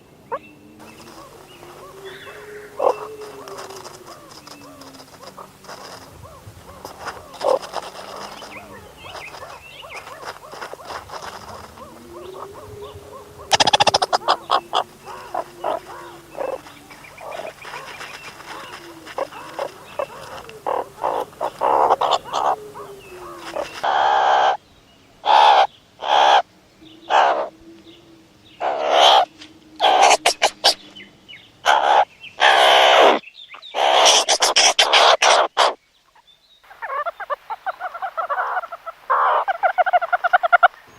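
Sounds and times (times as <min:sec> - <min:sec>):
meerkats chirping and peeping: 0:00.0 - 0:24.6, 0:28.6 - 0:30.9, 0:31.6 - 0:40.7
meerkats harsh calls: 0:00.8 - 0:24.6, 0:25.2 - 0:26.5, 0:27.1 - 0:27.5, 0:28.6 - 0:30.8, 0:31.6 - 0:35.8, 0:36.7 - 0:40.7.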